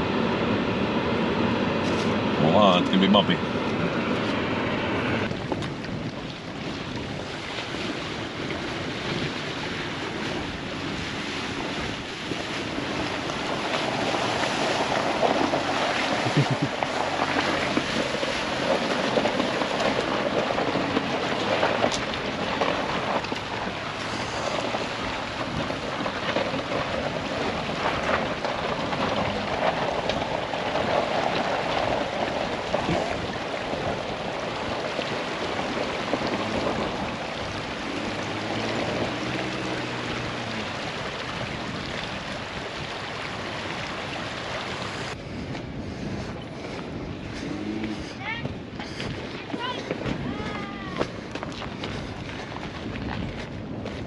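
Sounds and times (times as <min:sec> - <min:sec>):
floodwater rushing and splashing: 0:00.0 - 0:54.0
wind buffeting microphone: 0:00.0 - 0:54.0.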